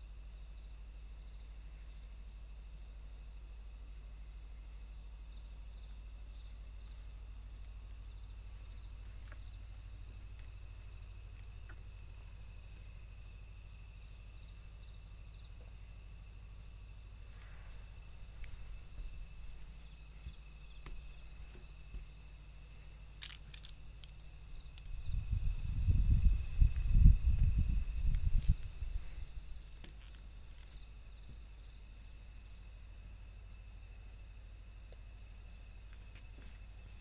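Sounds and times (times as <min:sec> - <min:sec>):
cricket trill: 0:00.0 - 0:37.0
faint insect chirp: 0:00.0 - 0:37.0
low rumbling noise: 0:00.0 - 0:37.0.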